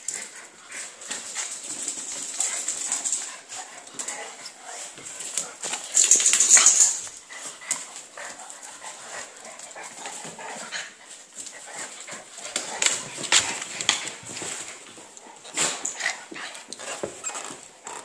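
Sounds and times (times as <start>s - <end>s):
dogs tussling and growling: 0.0s - 18.0s.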